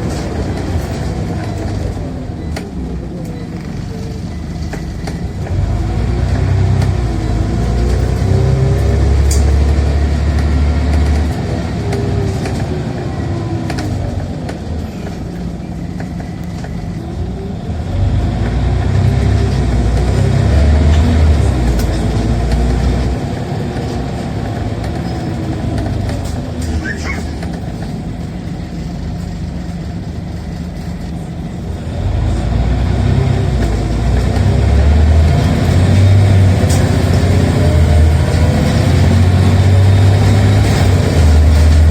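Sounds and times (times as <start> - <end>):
bus engine accelerating: 0.0 - 41.9.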